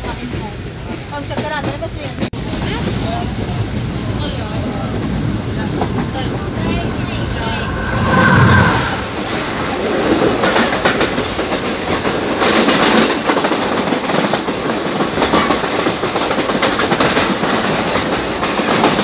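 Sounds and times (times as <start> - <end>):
rush of rail noise: 0.0 - 19.0.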